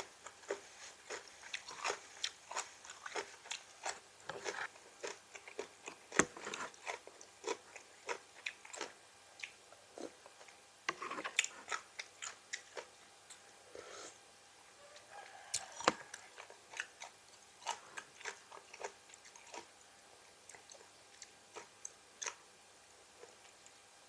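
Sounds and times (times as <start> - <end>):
person chewing crunchy vegetables: 0.0 - 14.2, 15.4 - 22.4.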